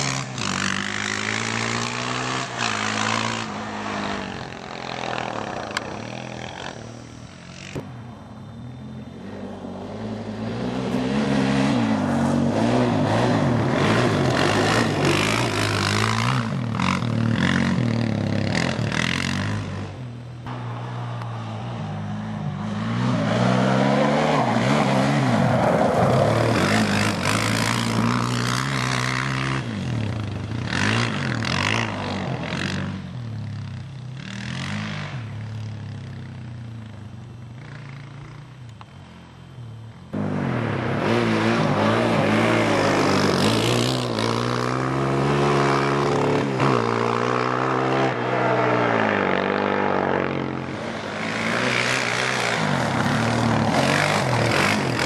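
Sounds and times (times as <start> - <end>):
quad engine revving: 0.0 - 7.8, 9.3 - 20.0, 22.1 - 36.3, 40.1 - 55.0.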